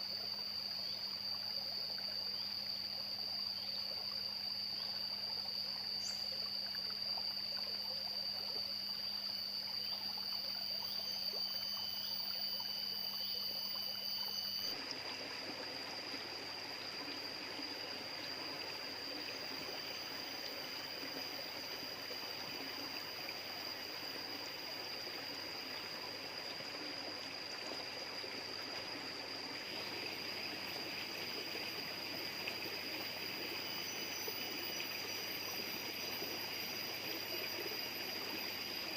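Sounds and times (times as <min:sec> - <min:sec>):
high-pitched insect drone: 0:00.0 - 0:14.8, 0:16.5 - 0:38.9
stream running: 0:00.0 - 0:38.9.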